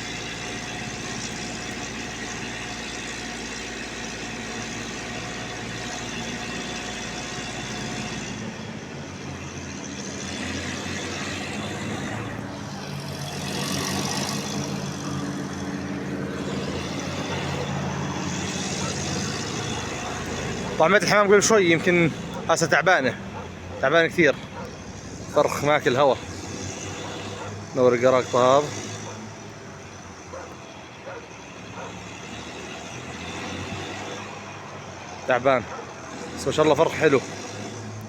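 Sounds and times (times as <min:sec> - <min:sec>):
steady engine hum: 0:00.0 - 0:38.0.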